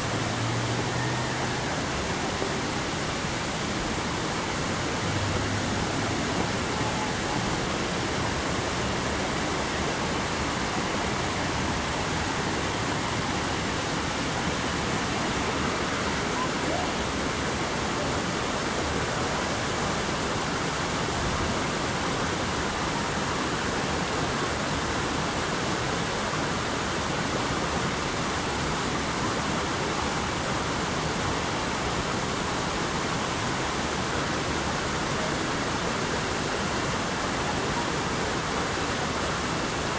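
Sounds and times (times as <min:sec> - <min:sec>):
flowing falling water: 0:00.0 - 0:39.9.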